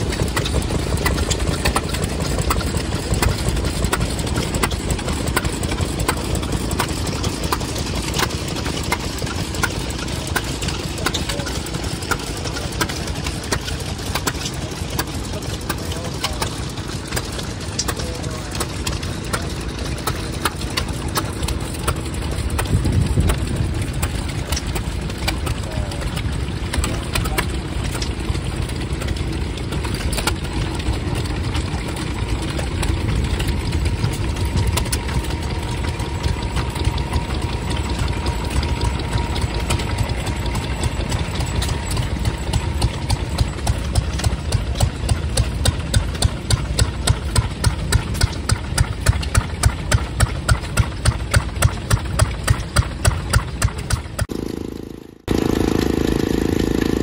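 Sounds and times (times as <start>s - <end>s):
small stationary engines running: 0.0s - 57.0s.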